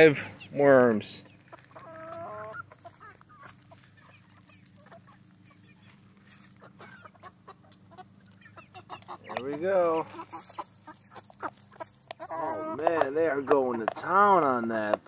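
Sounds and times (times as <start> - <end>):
chickens clucking and peeping: 0.0 - 15.0.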